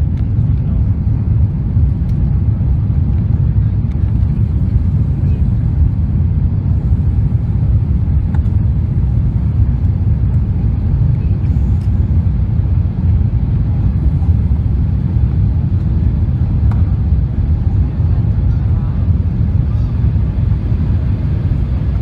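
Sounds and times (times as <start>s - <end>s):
airliner rolling on runway rumble: 0.0s - 22.0s.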